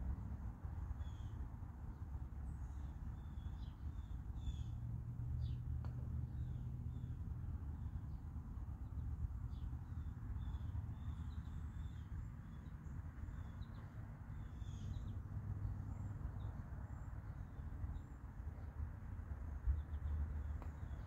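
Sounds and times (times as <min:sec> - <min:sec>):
low outdoor rumble: 0:00.0 - 0:21.0
small birds chirping: 0:00.9 - 0:18.8, 0:19.4 - 0:21.0.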